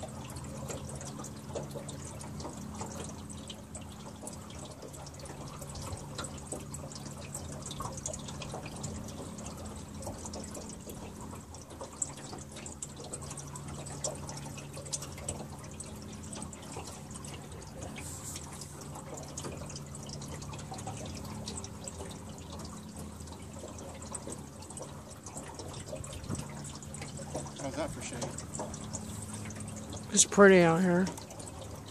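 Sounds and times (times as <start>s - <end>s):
steady low hum: 0.0s - 31.9s
water dripping and trickling: 0.0s - 31.9s.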